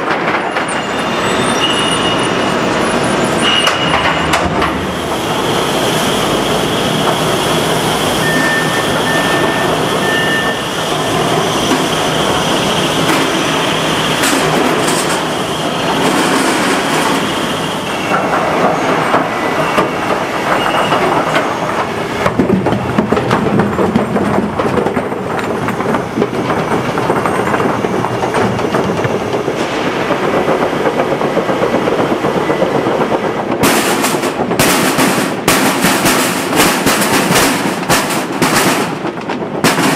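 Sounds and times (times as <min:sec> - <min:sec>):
factory machinery rattling: 0:00.0 - 0:39.9.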